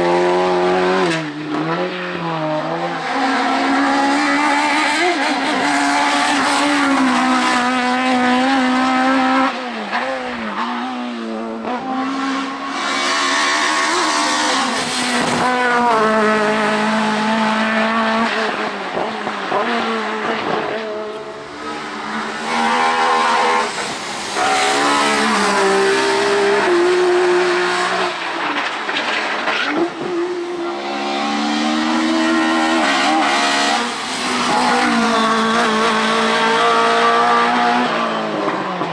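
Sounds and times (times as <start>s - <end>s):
racing car engines revving: 0.0s - 38.9s.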